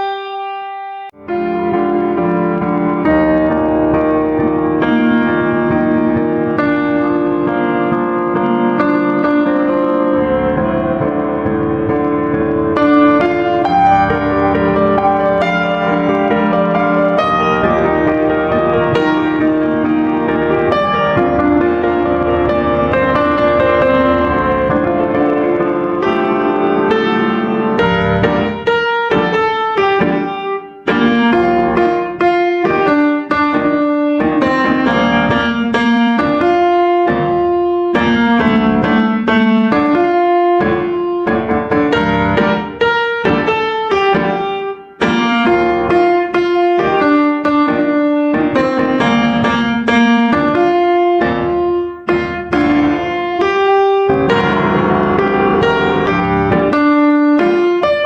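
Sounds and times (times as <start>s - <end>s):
piano music: 0.0s - 58.0s.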